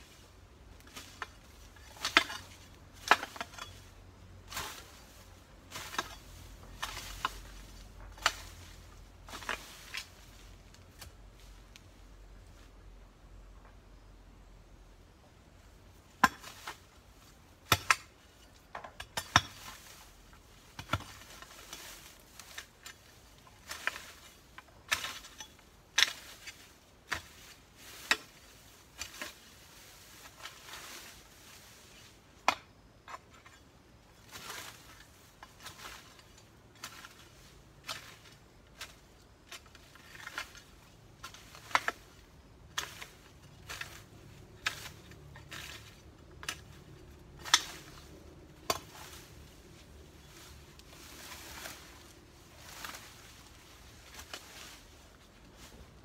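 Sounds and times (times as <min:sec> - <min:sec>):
hoe scraping soil: 0:00.0 - 0:11.7, 0:16.2 - 0:56.0
hoe striking soil: 0:00.1 - 0:11.2, 0:16.0 - 0:56.0.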